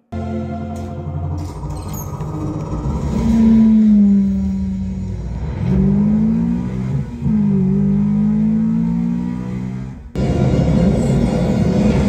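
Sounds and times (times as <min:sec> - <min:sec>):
car engines revving over speakers: 0:00.1 - 0:12.0.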